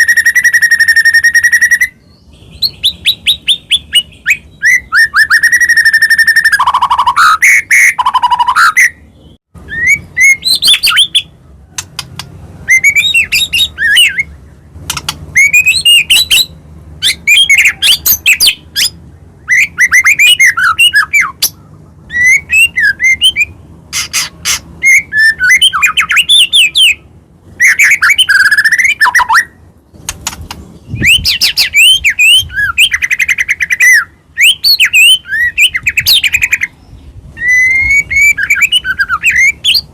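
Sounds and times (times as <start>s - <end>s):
songbird singing whistles and chirps: 0.0s - 39.9s.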